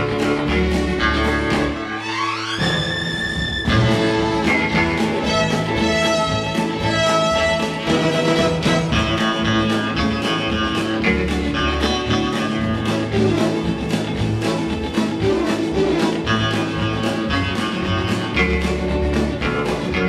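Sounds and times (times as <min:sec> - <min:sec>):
twangy electric guitar melody: 0:00.0 - 0:02.0, 0:02.6 - 0:20.0
backing band with steady beat: 0:00.0 - 0:20.0.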